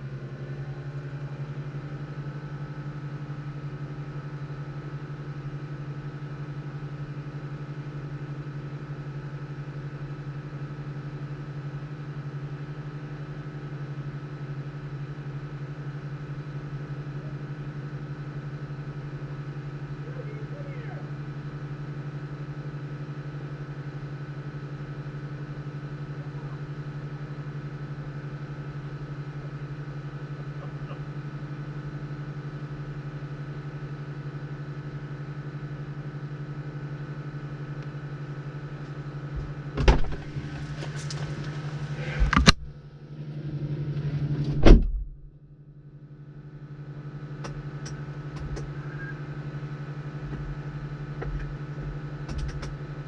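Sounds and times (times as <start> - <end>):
engine idling: 0.0 - 45.4.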